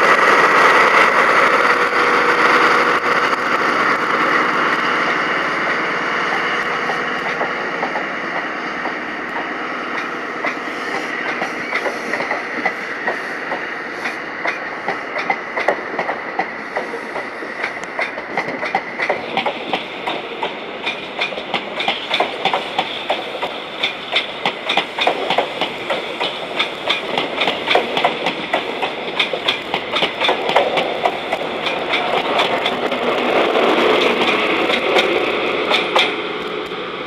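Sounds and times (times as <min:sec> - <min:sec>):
train wheels clicking over rail joints: 0:00.0 - 0:36.8
high-pitched train whine: 0:00.0 - 0:37.0.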